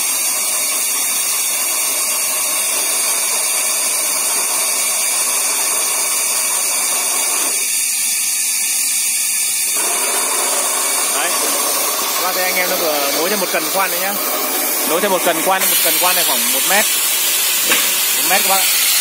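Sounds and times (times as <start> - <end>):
rock drill hissing: 0.0 - 19.0.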